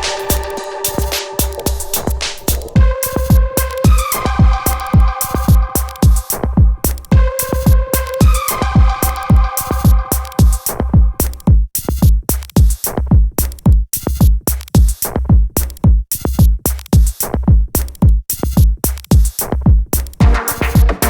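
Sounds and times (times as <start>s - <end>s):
deep kick drums: 0.0s - 21.0s
hi-hat and snare hits: 0.0s - 21.0s.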